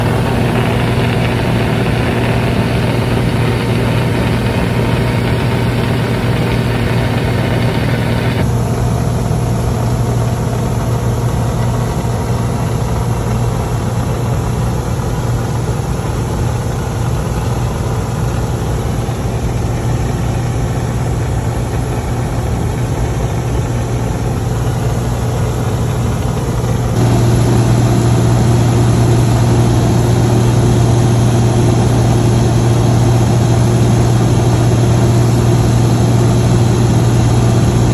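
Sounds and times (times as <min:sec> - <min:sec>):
propeller plane engine droning: 0:00.0 - 0:37.9.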